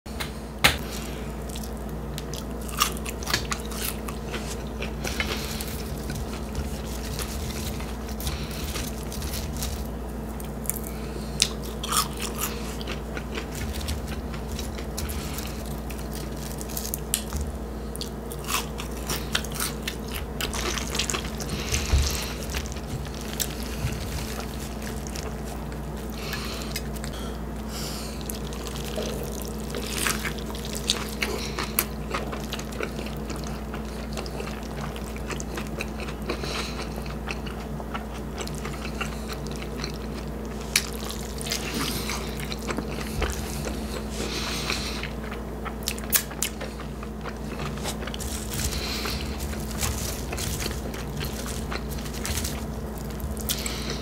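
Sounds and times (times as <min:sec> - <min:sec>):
steady low hum: 0:00.1 - 0:54.0
chewing with crunches: 0:00.8 - 0:54.0.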